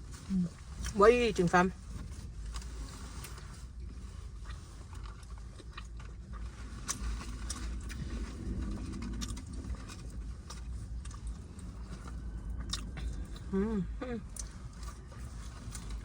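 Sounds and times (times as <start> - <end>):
steady low hum: 0.0 - 16.0
close chewing mouth sounds: 2.0 - 16.0.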